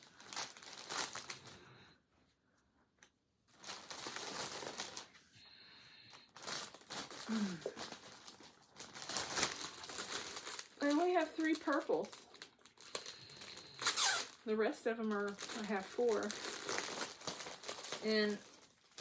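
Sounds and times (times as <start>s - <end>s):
packaging crinkling: 0.0s - 1.8s, 3.5s - 19.0s.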